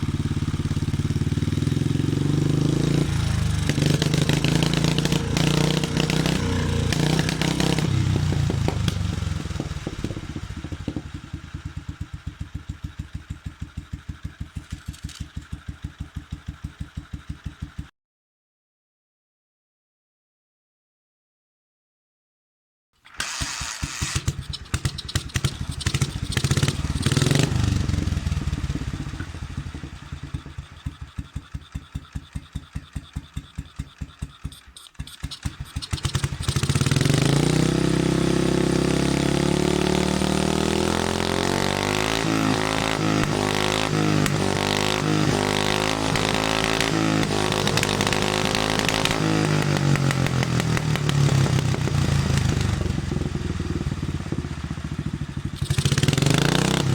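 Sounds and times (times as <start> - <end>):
single-cylinder motorcycle engine: 0.0 - 17.9, 23.1 - 56.9.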